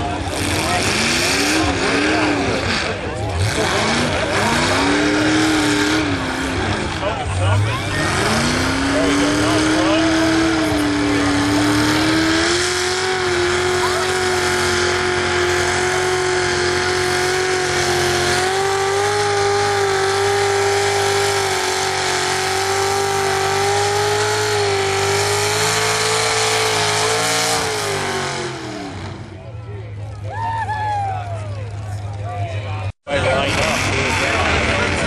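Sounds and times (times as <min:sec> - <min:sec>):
truck engine at full throttle: 0:00.0 - 0:35.0.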